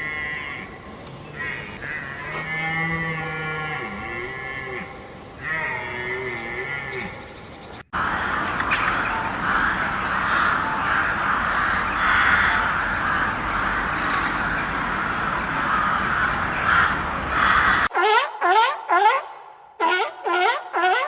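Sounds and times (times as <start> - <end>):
flock of birds calling: 0.0 - 4.6, 5.3 - 17.9.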